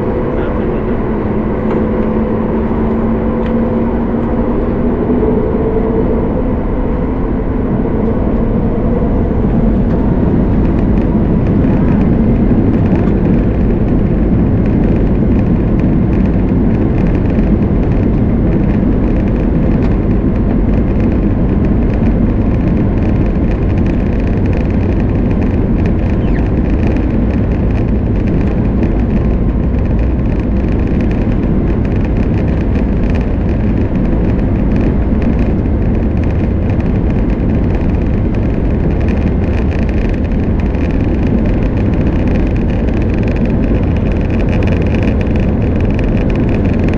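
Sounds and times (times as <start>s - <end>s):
jet engines rushing noise: 0.0s - 46.9s.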